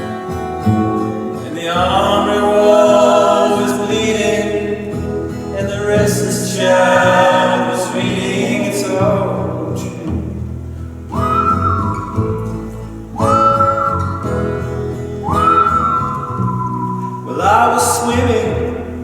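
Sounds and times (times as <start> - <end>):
voices singing in harmony: 0.0 - 10.5, 11.1 - 19.0.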